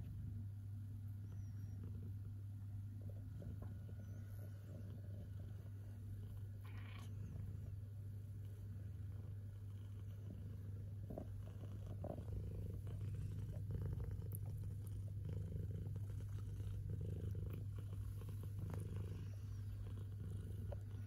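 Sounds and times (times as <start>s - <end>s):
cats purring: 0.0s - 21.0s.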